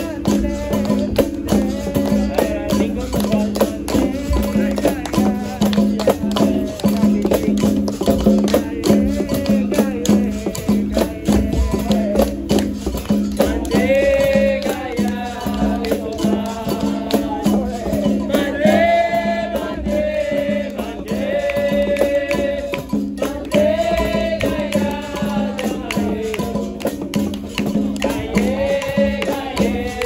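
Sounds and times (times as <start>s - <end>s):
hand percussion: 0.0s - 30.0s
shaker rattling: 0.0s - 30.0s.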